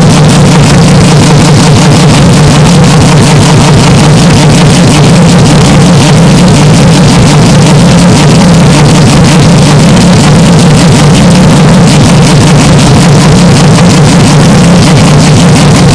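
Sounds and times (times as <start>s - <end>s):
distorted racing car engine drone: 0.0s - 15.9s.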